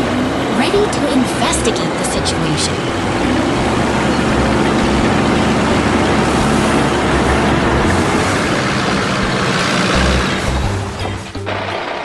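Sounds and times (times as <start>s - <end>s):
road noise: 0.0s - 12.0s
vehicle engines running: 0.0s - 12.0s.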